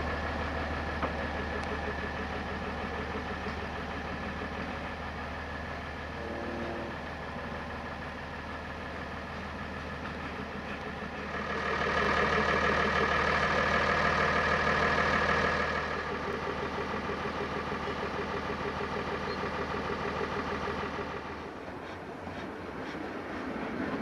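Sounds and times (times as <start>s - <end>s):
locomotive engine idling: 0.0s - 24.0s.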